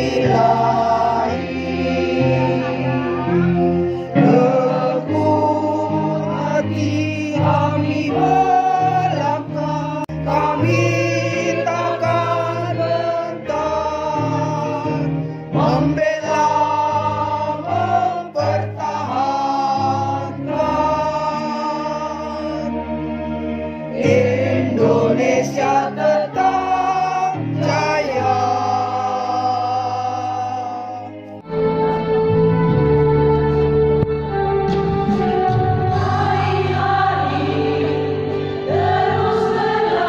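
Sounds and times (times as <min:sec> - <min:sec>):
choir singing: 0:00.0 - 0:33.7, 0:34.3 - 0:40.0
instrumental accompaniment: 0:00.0 - 0:40.0.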